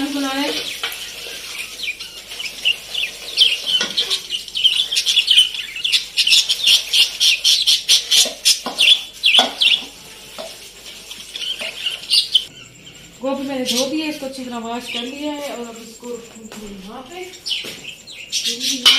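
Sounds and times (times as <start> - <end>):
parrots chirping and screeching: 0.0 - 18.9.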